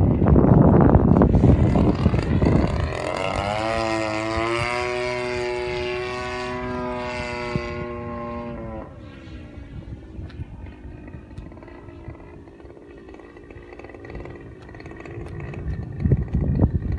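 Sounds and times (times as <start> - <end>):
model airplane engine in flight: 0.0 - 16.9
wind buffeting microphone: 0.0 - 16.9.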